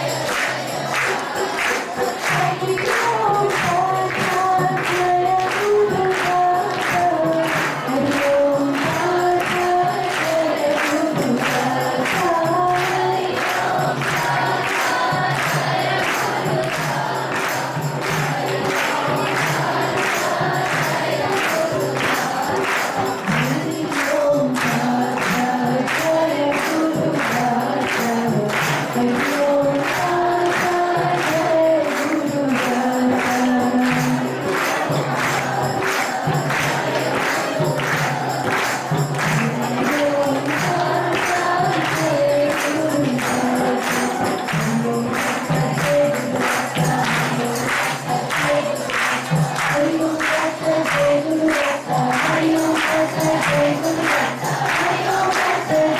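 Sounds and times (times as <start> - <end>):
group singing devotional song: 0.0 - 55.9
steady percussion beat: 0.0 - 55.9.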